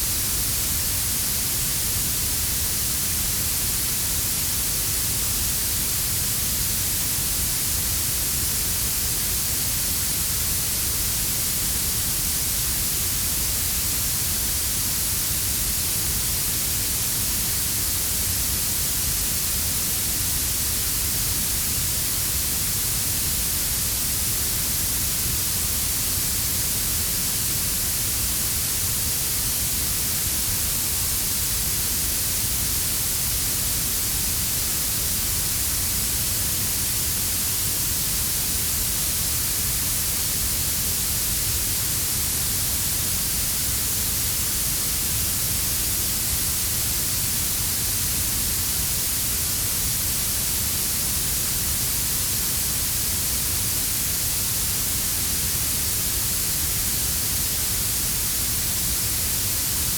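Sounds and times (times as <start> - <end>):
synthesized blue noise hiss: 0.0 - 59.9.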